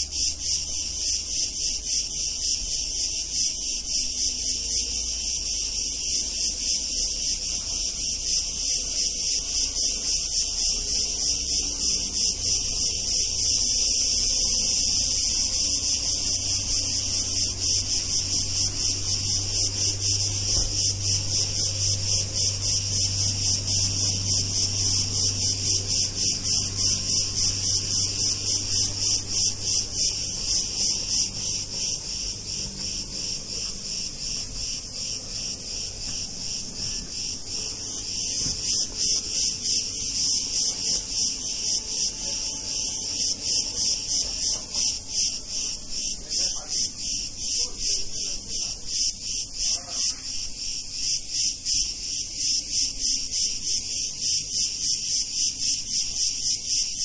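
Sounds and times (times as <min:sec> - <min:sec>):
cicadas singing in chorus: 0:00.0 - 0:57.0.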